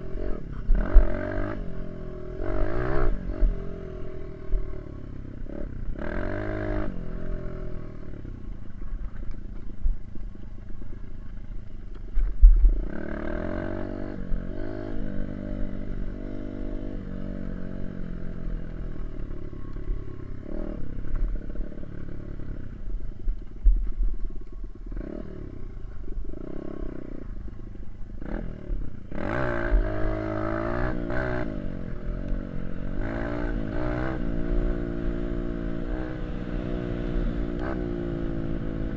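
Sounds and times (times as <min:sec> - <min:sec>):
dirt bike engine revving: 0:00.0 - 0:08.0, 0:12.7 - 0:22.7, 0:24.9 - 0:38.9.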